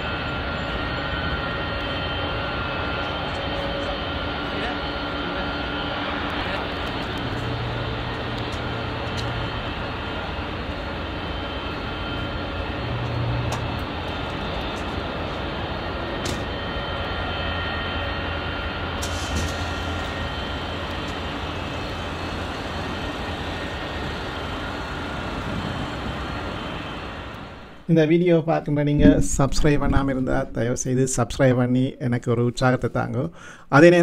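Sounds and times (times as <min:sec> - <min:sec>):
jet engines of climbing airliner: 0:00.0 - 0:28.2.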